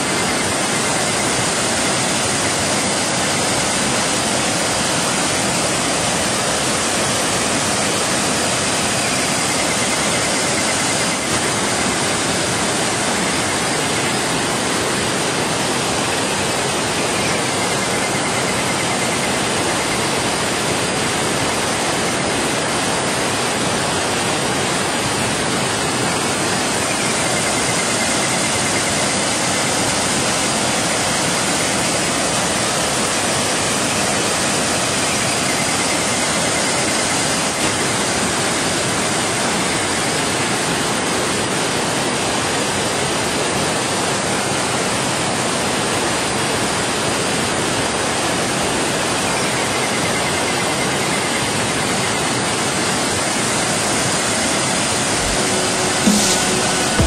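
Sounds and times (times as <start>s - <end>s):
water rushing over boulders: 0.0s - 57.0s.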